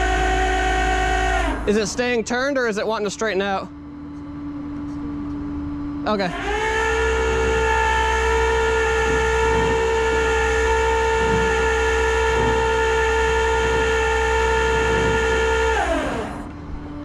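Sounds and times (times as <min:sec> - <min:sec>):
truck engine running: 0:00.0 - 0:03.2, 0:06.1 - 0:17.0
winch whining under load: 0:00.0 - 0:04.4, 0:05.5 - 0:17.0.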